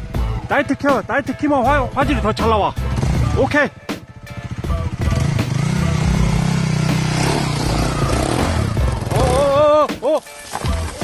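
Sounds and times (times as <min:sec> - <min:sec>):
dirt bike engine running hard: 0:00.0 - 0:09.7.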